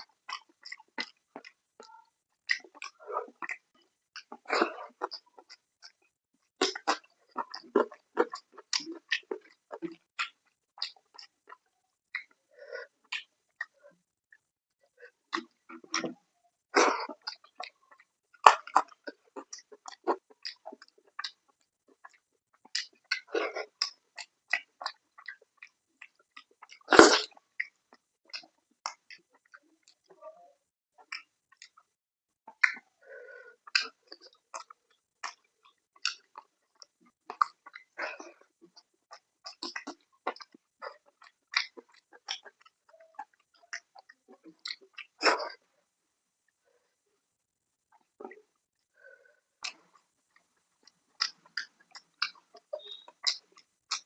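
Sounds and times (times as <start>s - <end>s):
person chewing food: 0.0s - 16.2s, 16.8s - 30.4s, 31.0s - 45.7s, 47.9s - 54.0s.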